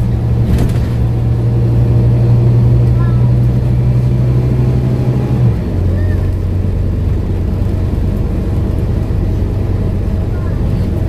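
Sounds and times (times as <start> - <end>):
bus diesel engine humming: 0.0 - 11.0.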